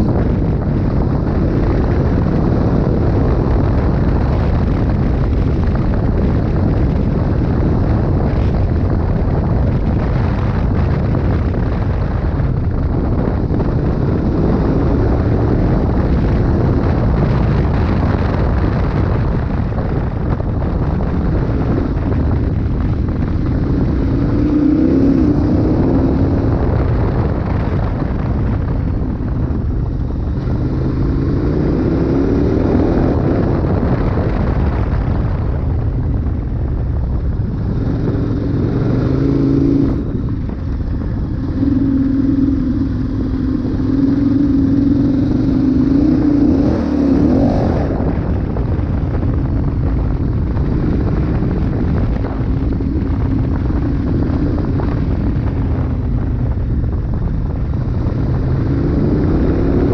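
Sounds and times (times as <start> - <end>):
heavy wind noise: 0.0 - 59.9
motorcycle engine running: 0.0 - 59.9.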